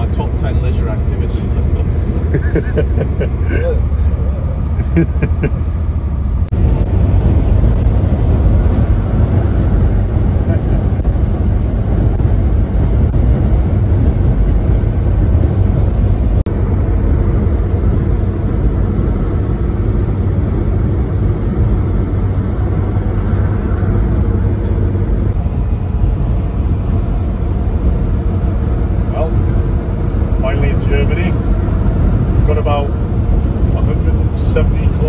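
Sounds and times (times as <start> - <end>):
diesel engine rumbling: 0.0 - 35.0
road and wind noise: 0.0 - 35.0.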